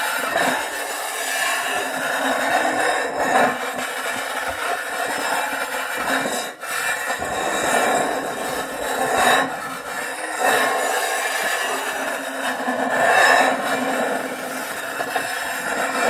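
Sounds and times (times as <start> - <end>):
metal sheet scraping across surface: 0.0 - 16.0.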